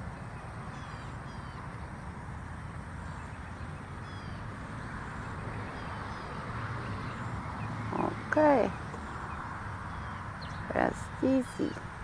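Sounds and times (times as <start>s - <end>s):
outdoor background rush: 0.0s - 12.0s
small birds chirping: 0.0s - 12.0s.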